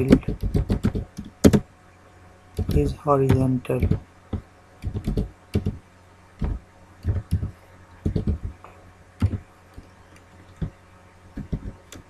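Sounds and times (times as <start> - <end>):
keyboard typing slowly: 0.0 - 1.6, 2.6 - 5.8, 6.4 - 10.8, 11.4 - 12.0.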